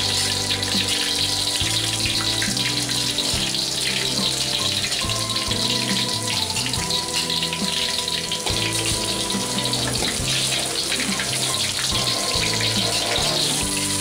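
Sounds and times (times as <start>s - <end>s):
background music: 0.0s - 14.0s
oil sizzling in a wok: 0.0s - 14.0s.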